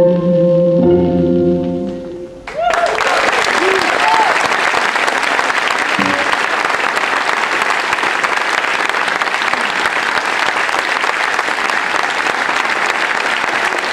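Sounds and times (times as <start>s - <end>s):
large audience applauding: 2.5s - 13.9s.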